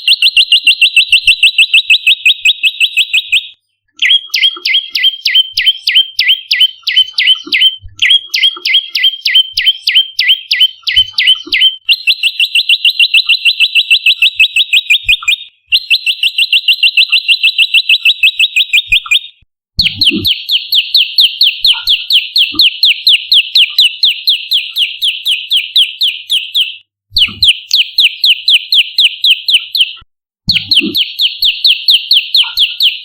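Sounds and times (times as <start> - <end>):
bird trills: 0.0 - 33.0.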